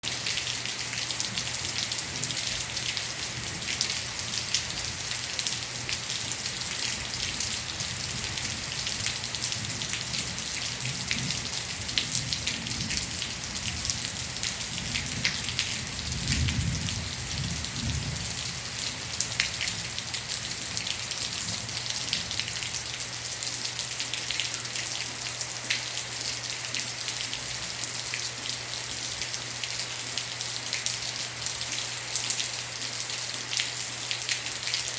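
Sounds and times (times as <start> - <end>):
light rain falling: 0.0 - 34.9.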